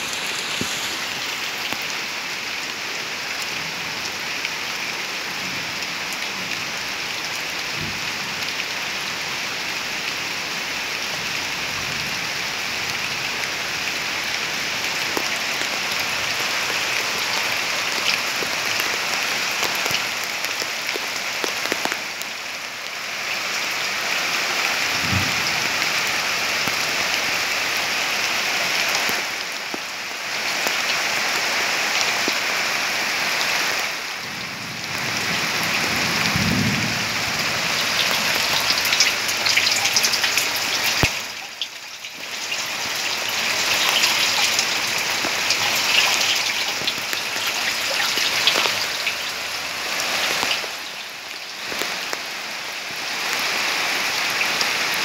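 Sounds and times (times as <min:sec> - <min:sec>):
rain on a corrugated roof: 0:00.0 - 0:55.0.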